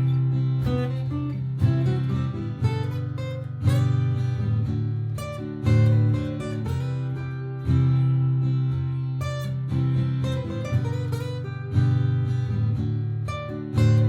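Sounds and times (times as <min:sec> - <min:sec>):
acoustic guitar strummed chords: 0:00.0 - 0:14.0
plucked guitar notes: 0:00.0 - 0:14.0.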